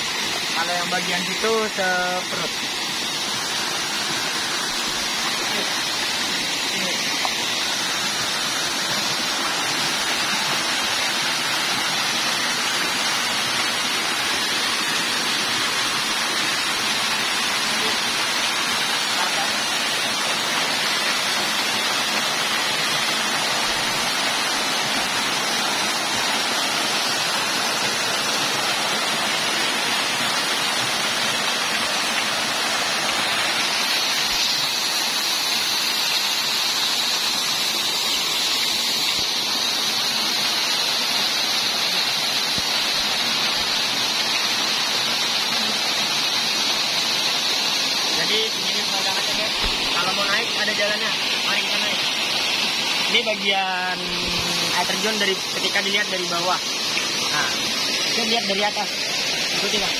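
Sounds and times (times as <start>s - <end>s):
waterfall splashing into pool: 0.0s - 59.9s.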